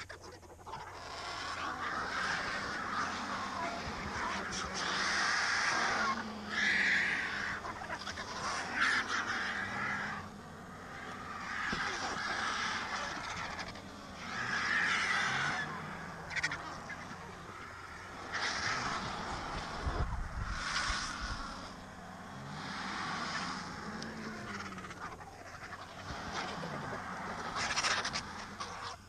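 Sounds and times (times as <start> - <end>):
vultures hissing: 0.0 - 29.0.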